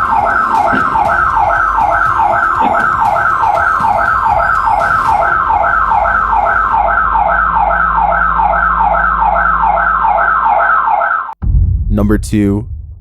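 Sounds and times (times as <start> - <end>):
security alarm siren: 0.0 - 11.4.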